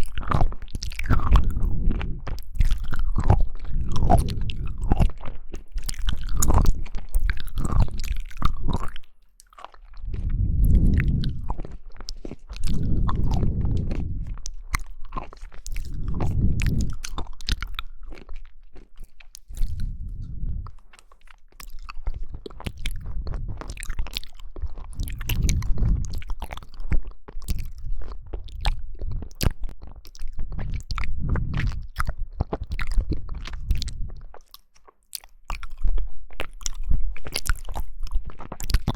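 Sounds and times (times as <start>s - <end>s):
muffled chewing: 0.0s - 38.9s
wet clicks of biting jelly: 0.0s - 38.9s.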